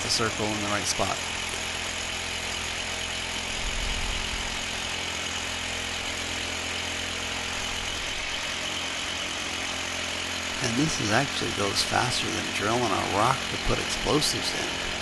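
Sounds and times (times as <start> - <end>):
electric drill boring into concrete: 0.0 - 15.0.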